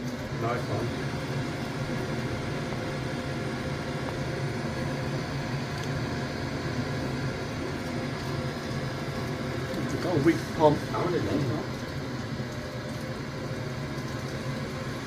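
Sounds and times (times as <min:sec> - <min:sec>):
boiler mechanical hum: 0:00.0 - 0:15.0.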